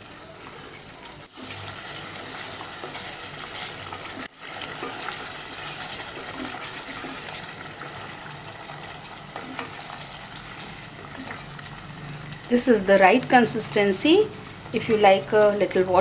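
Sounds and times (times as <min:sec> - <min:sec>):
gravy sizzling while stirred: 0:00.0 - 0:16.0.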